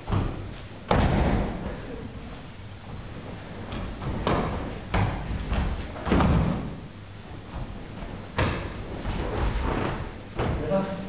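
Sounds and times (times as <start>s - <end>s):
thumps and scuffs on padded mats: 0.0s - 10.7s.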